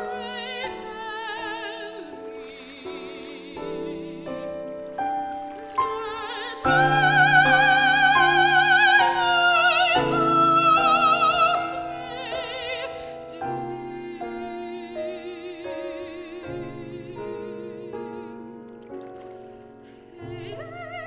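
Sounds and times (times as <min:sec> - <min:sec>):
soprano singing with vibrato: 0:00.0 - 0:18.8, 0:19.7 - 0:21.0
piano accompaniment: 0:00.0 - 0:21.0.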